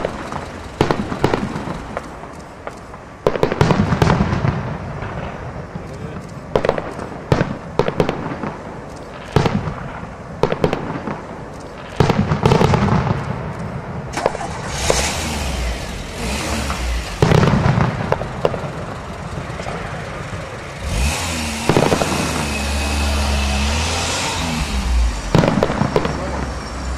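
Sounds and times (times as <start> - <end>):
firework shells bursting: 0.0 - 15.2, 16.6 - 26.9
firework crackling: 0.0 - 26.9.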